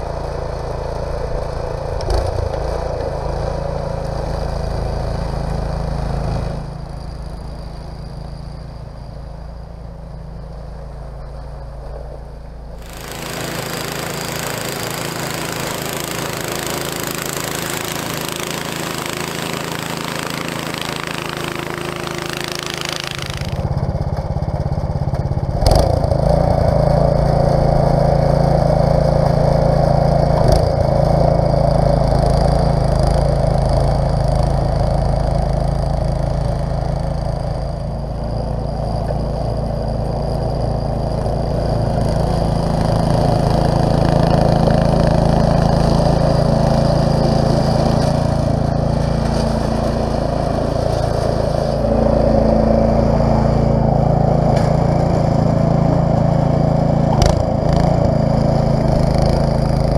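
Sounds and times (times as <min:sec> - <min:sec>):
snowblower engine running: 0:00.0 - 0:11.0, 0:11.7 - 0:59.9.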